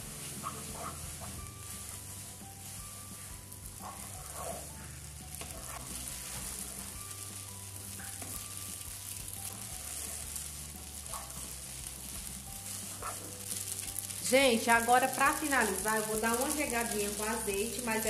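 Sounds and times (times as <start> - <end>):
food sizzling in a frying pan: 0.0 - 18.0
wooden spoon scraping a pan: 0.2 - 18.0.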